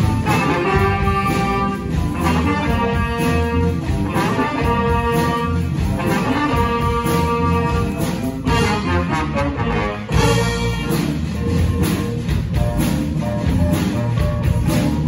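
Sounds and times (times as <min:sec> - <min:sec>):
live jazz band playing: 0:00.0 - 0:15.0
pulsing bass line: 0:00.0 - 0:15.0.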